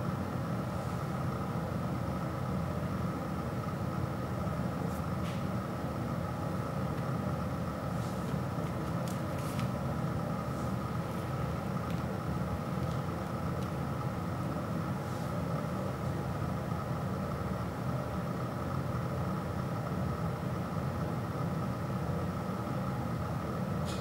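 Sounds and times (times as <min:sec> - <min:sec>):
low background rumble and hum: 0:00.0 - 0:24.0.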